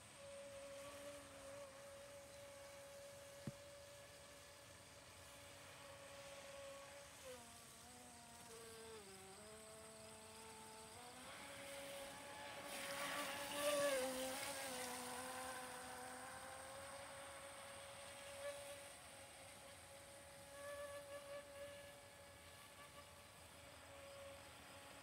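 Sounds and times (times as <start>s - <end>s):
model speedboat motor whining: 0.0s - 25.0s.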